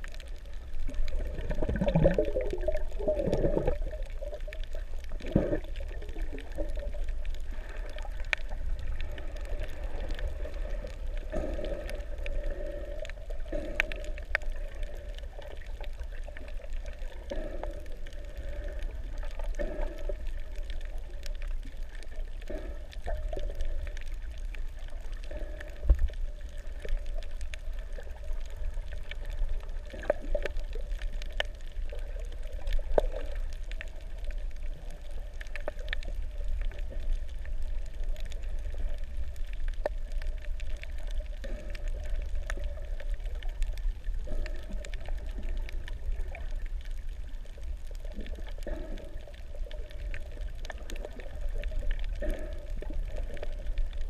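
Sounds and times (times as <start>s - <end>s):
faint clicks: 0.0s - 54.0s
low underwater rumble: 0.0s - 54.0s
muffled underwater sloshing: 0.0s - 54.0s.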